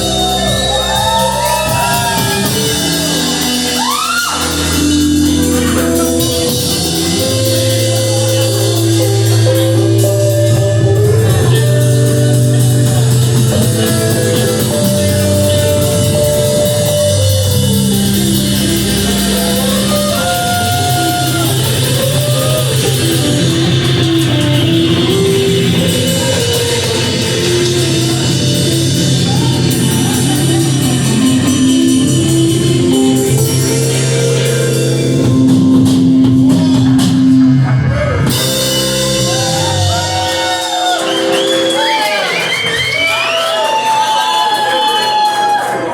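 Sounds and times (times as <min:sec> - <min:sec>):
person singing: 0:00.0 - 0:42.3
rock band playing: 0:00.0 - 0:45.9.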